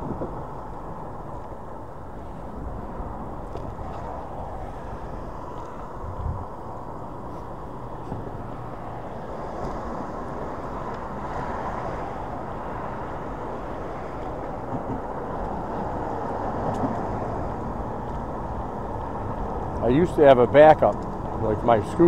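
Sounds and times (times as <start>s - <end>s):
scooter road noise: 0.0s - 22.0s
wind noise: 0.0s - 22.0s.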